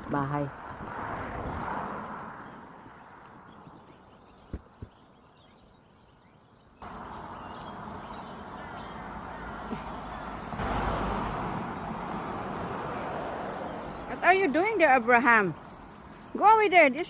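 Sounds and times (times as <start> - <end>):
outdoor noise: 0.0 - 17.0
birds chirping: 1.9 - 17.0.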